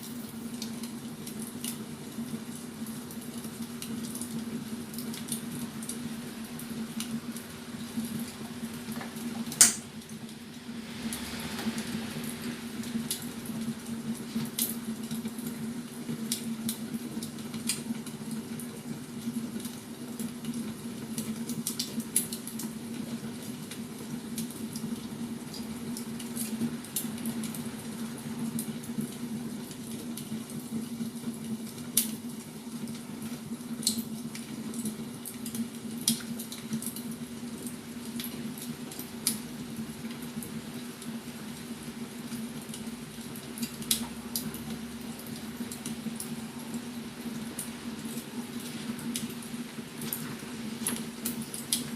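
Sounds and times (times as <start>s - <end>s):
firewood crackling and popping: 0.1s - 51.9s.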